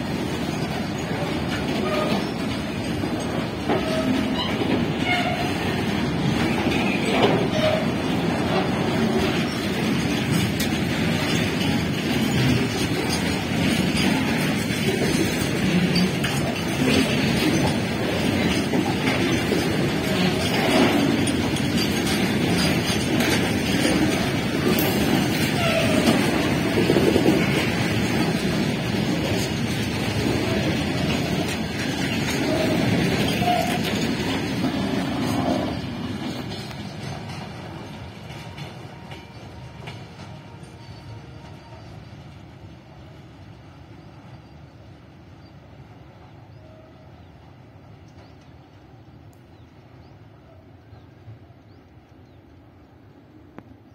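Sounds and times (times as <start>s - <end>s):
train wheels rolling on track: 0.0s - 53.9s.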